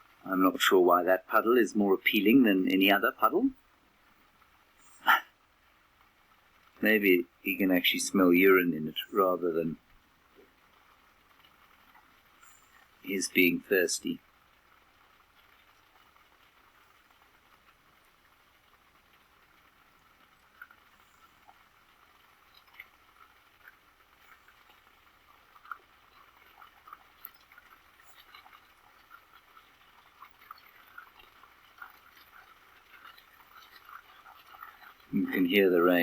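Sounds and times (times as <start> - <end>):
faint raindrops pattering: 0.0 - 36.0.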